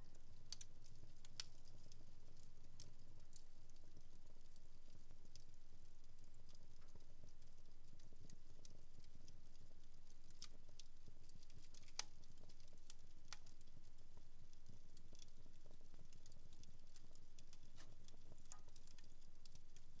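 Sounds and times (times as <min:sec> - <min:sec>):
wood fire crackling: 0:00.0 - 0:20.0
fire snaps and pops: 0:00.2 - 0:03.8, 0:06.1 - 0:20.0.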